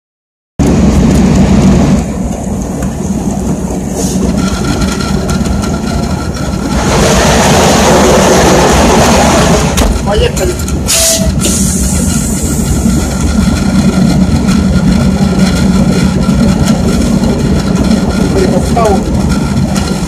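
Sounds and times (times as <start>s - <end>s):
diesel locomotive engine drone: 0.6s - 20.0s.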